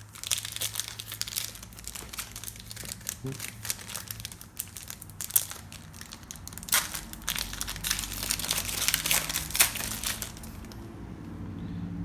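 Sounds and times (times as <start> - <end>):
plastic wrappers crinkling: 0.0 - 10.9.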